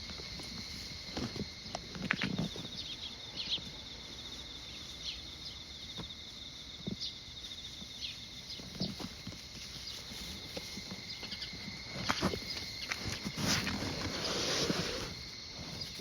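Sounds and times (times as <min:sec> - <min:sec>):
insects trilling: 0:00.0 - 0:16.0
soft footsteps: 0:00.0 - 0:16.0.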